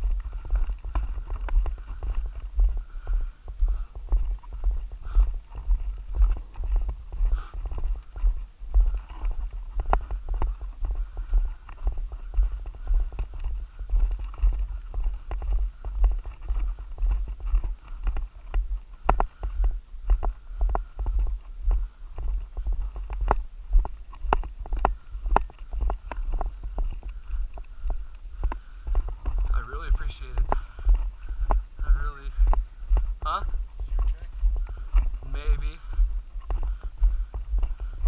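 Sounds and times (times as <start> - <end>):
footsteps crunching on gravel: 0.0 - 38.0.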